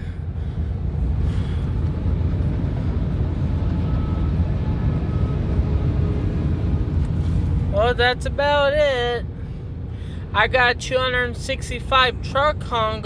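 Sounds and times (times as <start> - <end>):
highway traffic rumble: 0.0 - 13.0
semi-truck passing: 0.0 - 13.0.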